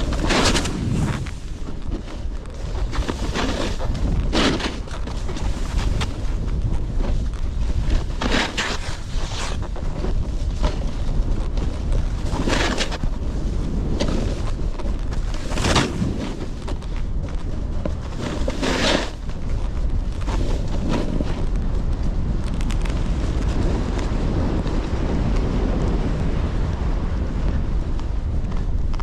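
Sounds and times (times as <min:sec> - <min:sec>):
snowboard edges scraping snow: 0:00.0 - 0:25.7
wind rushing over microphone: 0:00.0 - 0:29.0.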